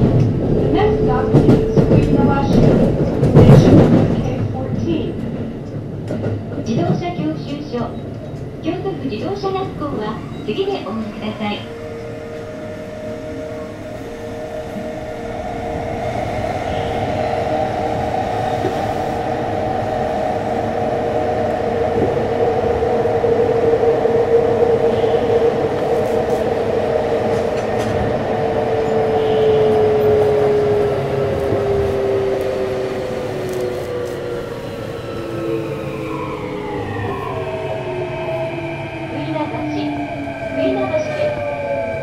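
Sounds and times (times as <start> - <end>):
train wheels on track: 0.0 - 42.0.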